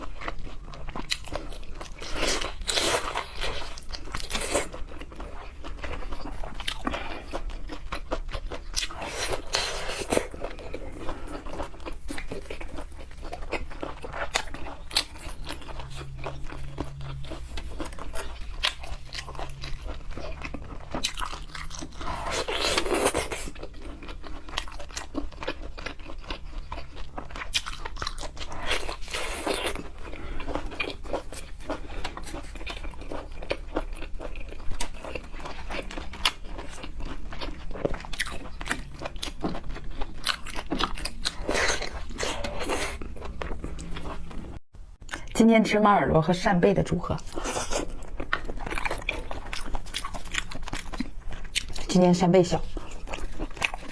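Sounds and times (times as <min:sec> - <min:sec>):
chewing and crunching seafood: 0:00.0 - 0:45.4, 0:47.2 - 0:53.9.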